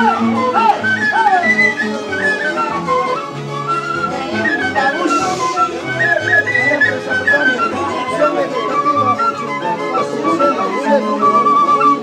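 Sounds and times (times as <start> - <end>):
band playing folk dance music: 0.0 - 12.0.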